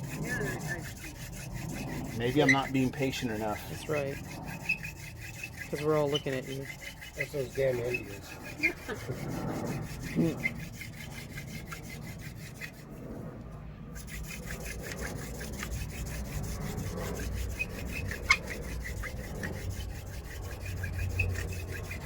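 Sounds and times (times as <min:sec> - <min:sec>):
hand drill rasping on wood: 0:00.0 - 0:13.0, 0:14.0 - 0:22.0.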